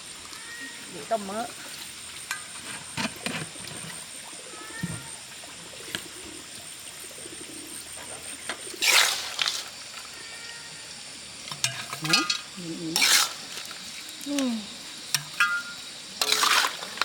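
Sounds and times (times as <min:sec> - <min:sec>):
fat sizzling in a pan: 0:00.0 - 0:17.0.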